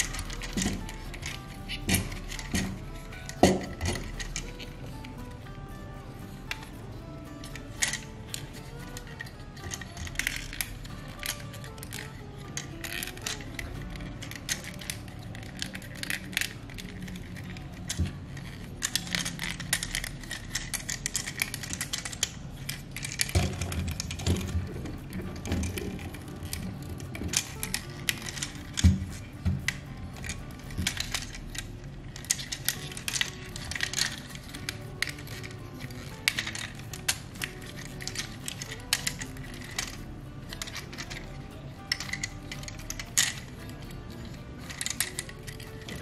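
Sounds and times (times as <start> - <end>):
plastic toy parts clicking: 0.0 - 5.8, 6.4 - 46.0
background music: 0.0 - 46.0.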